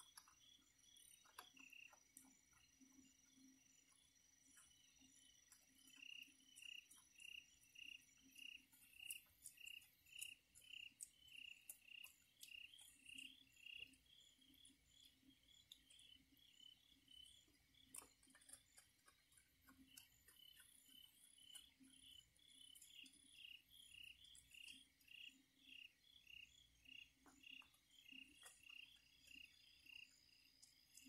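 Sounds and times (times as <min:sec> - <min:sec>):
faint cricket chirping: 0:00.0 - 0:31.0.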